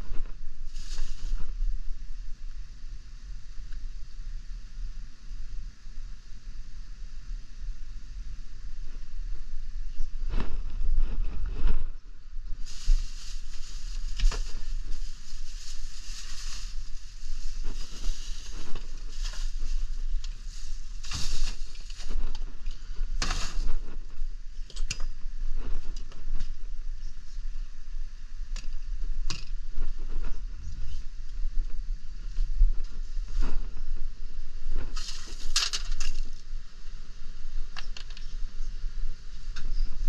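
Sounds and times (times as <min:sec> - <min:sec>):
steady low rumble: 0:00.0 - 0:40.0.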